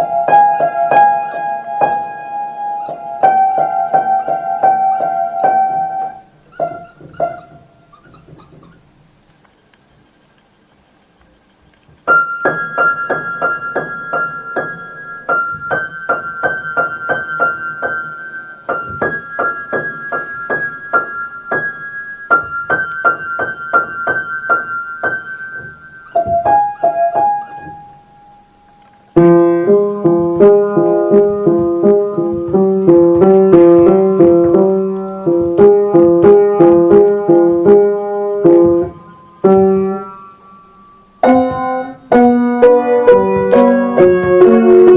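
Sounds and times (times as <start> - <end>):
piano playing: 0.0 - 9.2, 12.1 - 44.9.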